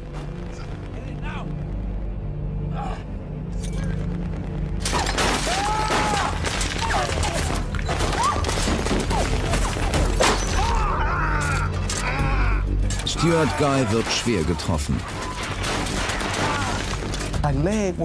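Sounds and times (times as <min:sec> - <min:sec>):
low music drone: 0:00.0 - 0:18.0.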